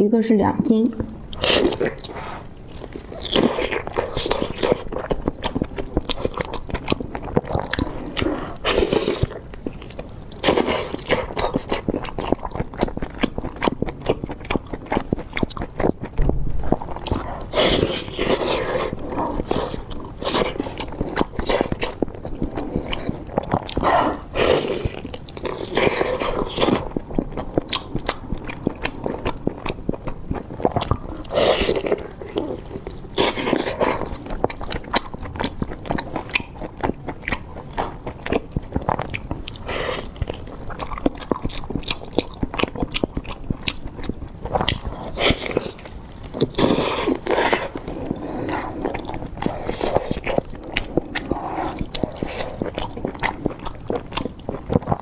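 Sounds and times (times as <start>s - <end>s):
person biting and chewing: 1.0s - 55.0s.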